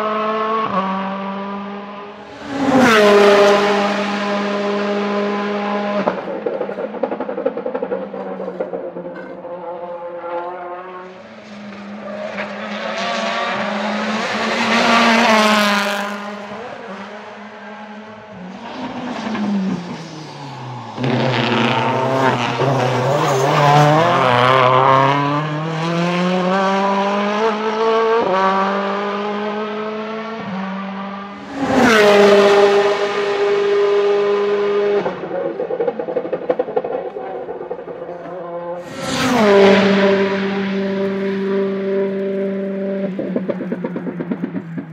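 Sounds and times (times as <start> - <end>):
race car engine accelerating: 0.0 - 44.9.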